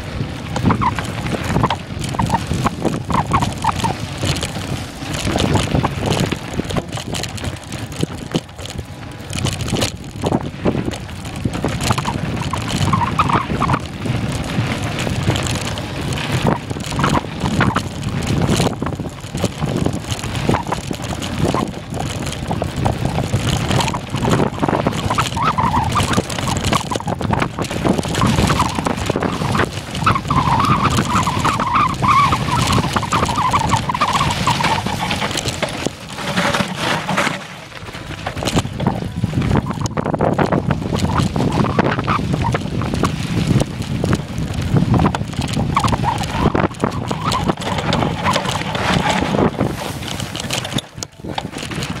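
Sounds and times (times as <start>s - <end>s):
bike rattling over ground: 0.0s - 52.0s
wind buffeting microphone: 0.0s - 52.0s.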